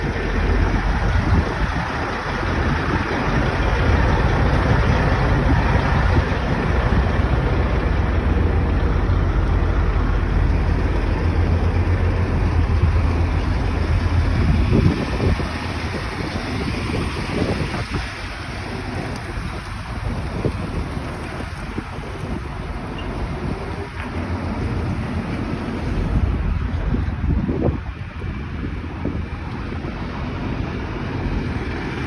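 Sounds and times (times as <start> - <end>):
low engine rumble: 0.0 - 32.0
road traffic hiss: 0.0 - 32.0.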